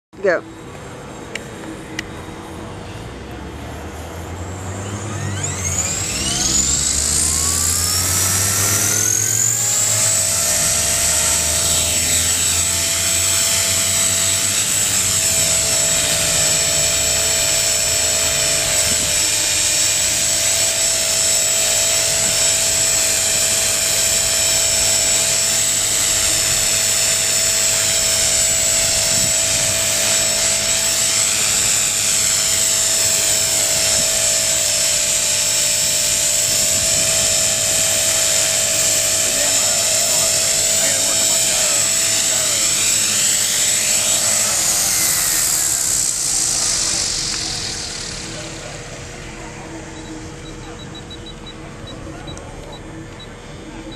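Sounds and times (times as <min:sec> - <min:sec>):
helicopter rotor noise: 0:00.2 - 0:53.9
rc helicopter motor whine: 0:00.2 - 0:53.9.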